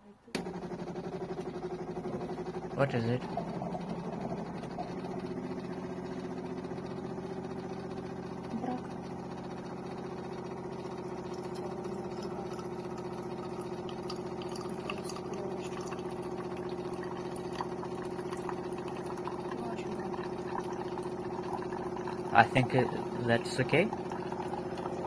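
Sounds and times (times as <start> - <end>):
coffee maker electric hum: 0.0 - 25.0.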